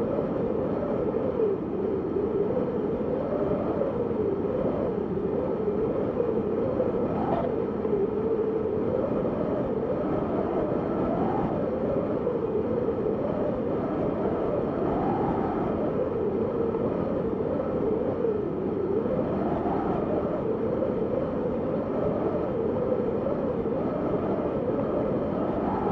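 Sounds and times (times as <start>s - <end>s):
steady wind: 0.0s - 25.9s.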